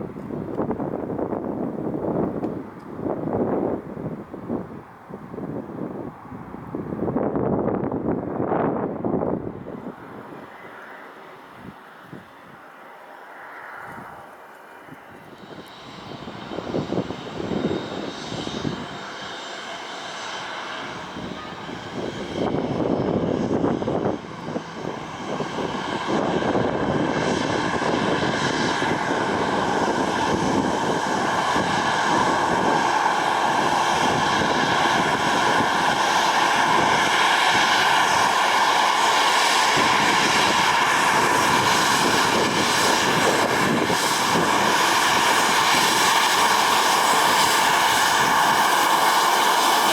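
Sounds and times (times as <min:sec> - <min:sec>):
jet engine whine: 0:00.0 - 0:49.9
jet engines running: 0:00.0 - 0:49.9.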